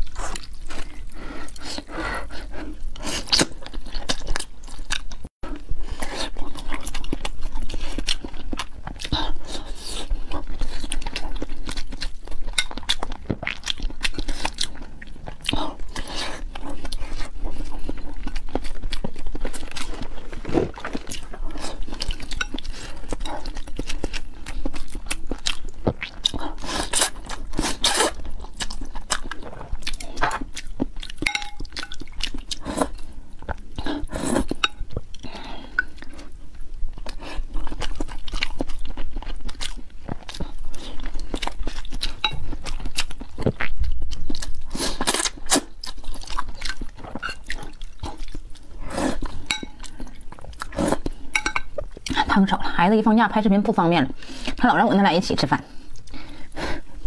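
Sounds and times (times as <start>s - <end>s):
woman chewing food: 0.0s - 53.0s, 54.1s - 57.0s.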